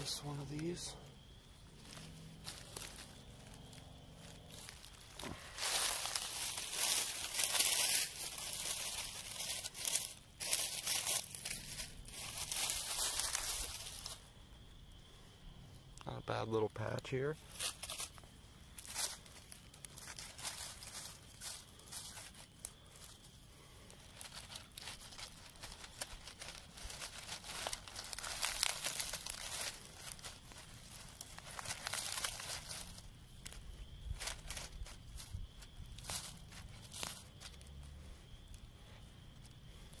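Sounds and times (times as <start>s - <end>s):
dry leaves crackling: 0.0s - 14.5s, 16.1s - 40.0s.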